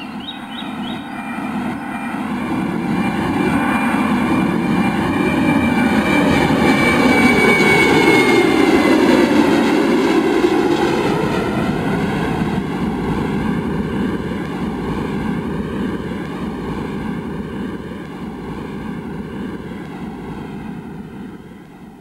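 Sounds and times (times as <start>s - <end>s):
jet aircraft passing overhead: 0.0s - 22.0s.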